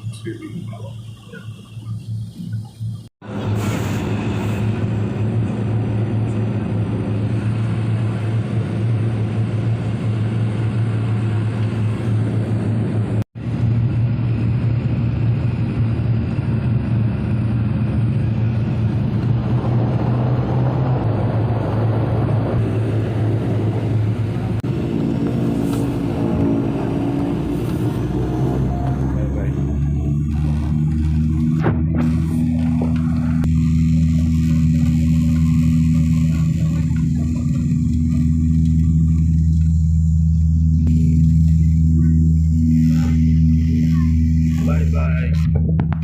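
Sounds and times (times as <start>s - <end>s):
aircraft engine drone in cabin: 0.0s - 46.0s.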